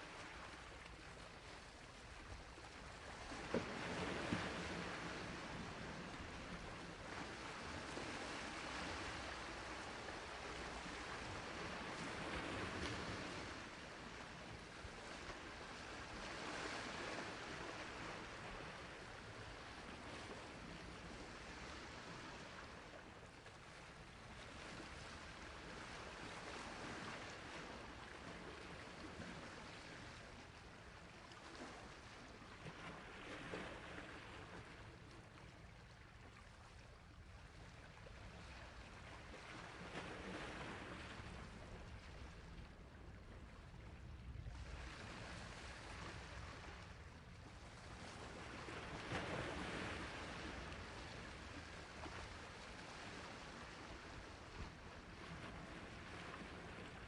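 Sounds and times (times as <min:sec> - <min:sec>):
sea waves washing on shore: 0:00.0 - 0:35.4, 0:37.8 - 0:57.0.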